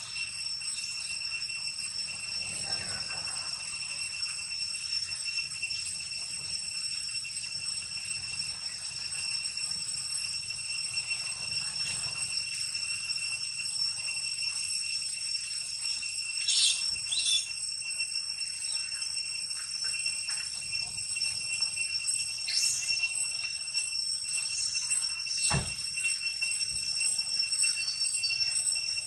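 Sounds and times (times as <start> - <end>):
high-pitched drone: 0.0 - 29.0.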